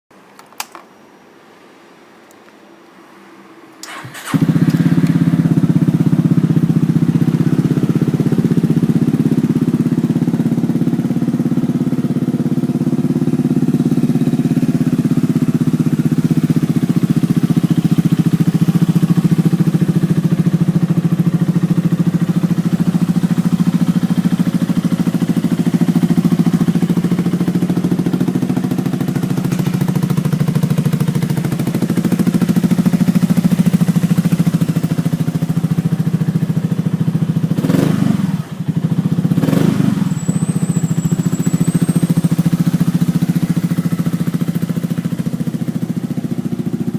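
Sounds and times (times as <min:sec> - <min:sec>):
scooter engine idling: 0:03.8 - 0:46.9.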